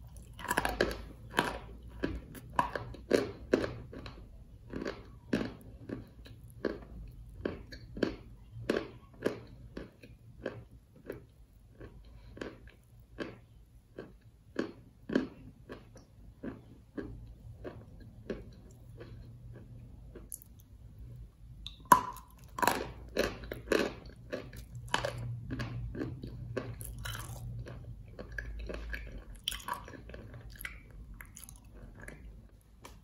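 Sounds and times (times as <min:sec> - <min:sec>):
crunchy clay being chewed: 0:00.0 - 0:33.0.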